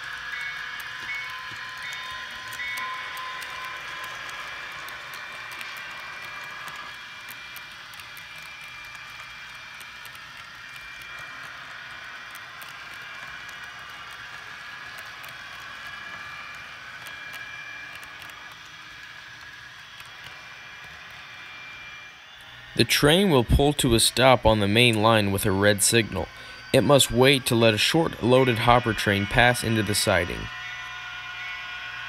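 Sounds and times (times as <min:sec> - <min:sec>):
model train cars rolling: 0:00.0 - 0:32.0
wheels clicking on rails: 0:00.0 - 0:32.0.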